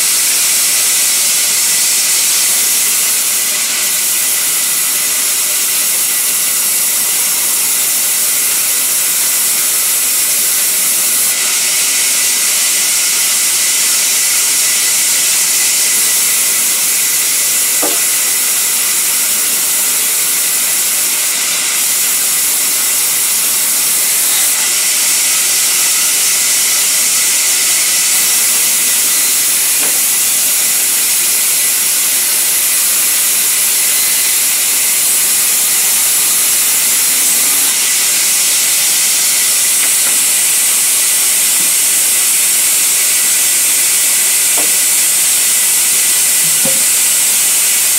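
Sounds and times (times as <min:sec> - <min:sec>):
band saw cutting wood: 0:00.0 - 0:47.9.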